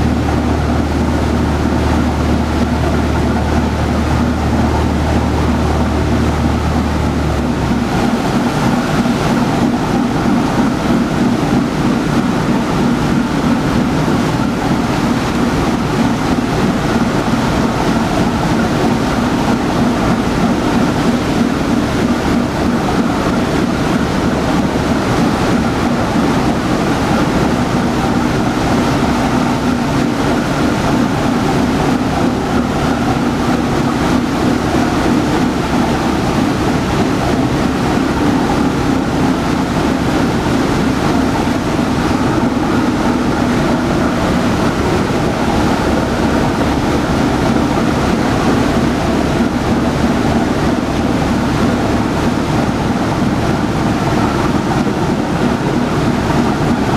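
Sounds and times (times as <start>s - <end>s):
boat diesel engine drone: 0.0s - 56.9s
propeller wash churning water: 0.0s - 56.9s.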